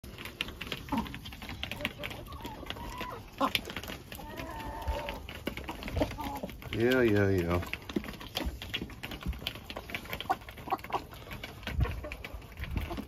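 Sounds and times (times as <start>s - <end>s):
chickens pecking feed: 0.0s - 13.0s
hens clucking: 0.0s - 13.0s.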